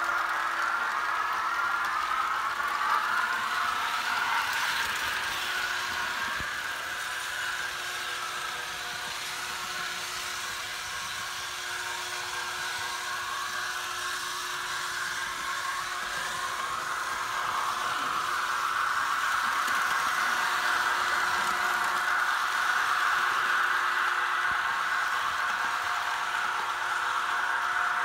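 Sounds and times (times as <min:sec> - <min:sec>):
model train running on metal track: 0:00.0 - 0:28.0.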